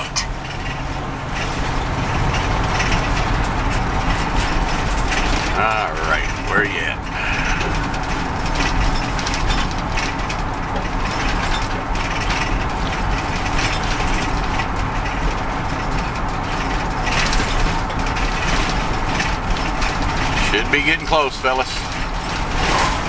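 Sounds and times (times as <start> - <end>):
small rattles and clicks: 0.0 - 23.0
vehicle cabin road rumble: 0.0 - 23.0.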